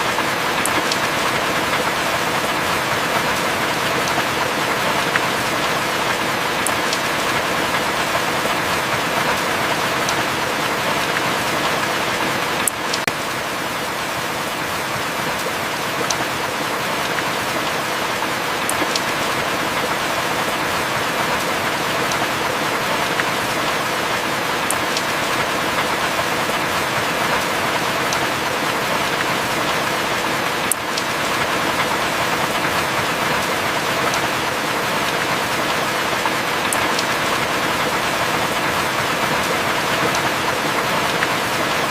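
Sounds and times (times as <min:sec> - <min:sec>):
heavy rain hissing: 0:00.0 - 0:41.9.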